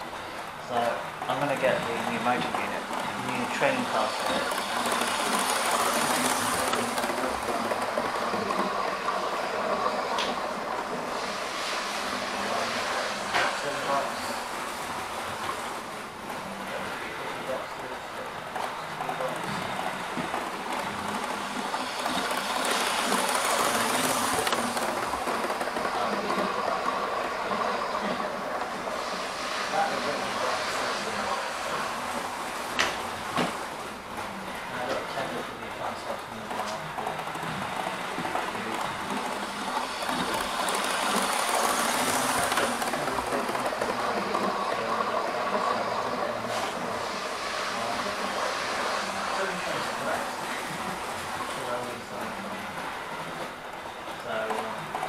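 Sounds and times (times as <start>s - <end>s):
model train motor and wheels: 0.0s - 55.0s.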